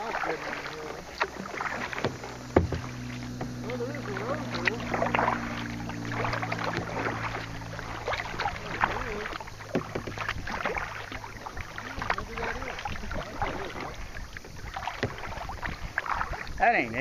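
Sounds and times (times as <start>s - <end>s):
paddle splashing water: 0.0s - 17.0s
low hum: 0.2s - 15.6s.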